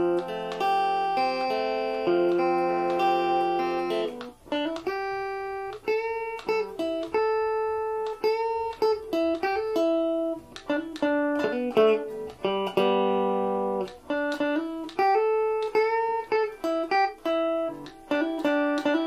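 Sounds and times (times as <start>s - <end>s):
clean electric guitar: 0.0s - 19.0s.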